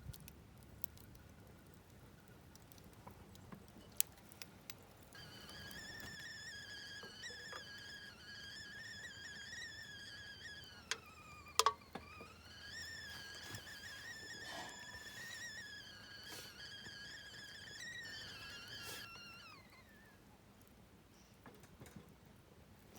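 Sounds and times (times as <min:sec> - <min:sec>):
fire crackles: 0:00.0 - 0:21.0
burning log whistling: 0:00.0 - 0:21.3.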